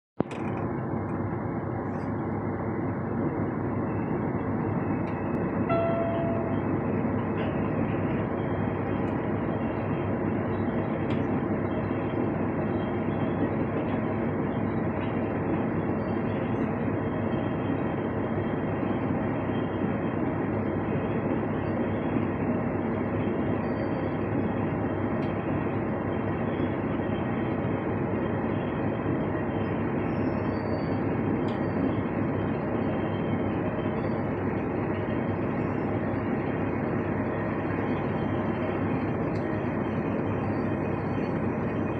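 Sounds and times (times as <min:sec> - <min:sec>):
train wheels rumbling on rail: 0:00.2 - 0:41.9.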